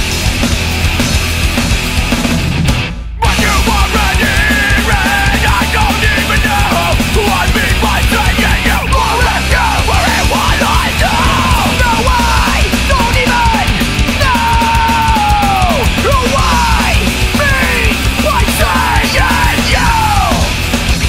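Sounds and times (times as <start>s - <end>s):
punk band playing: 0.0s - 21.0s
yelled vocal: 3.2s - 21.0s.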